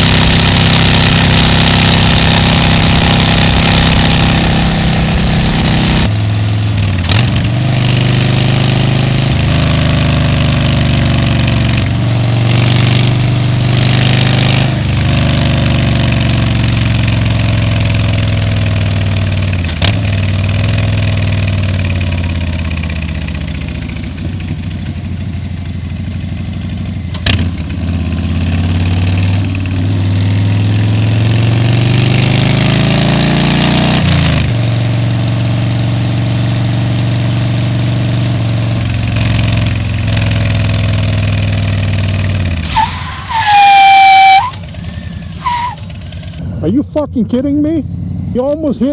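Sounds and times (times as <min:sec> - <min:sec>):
motorcycle engine and exhaust: 0:00.0 - 0:48.9.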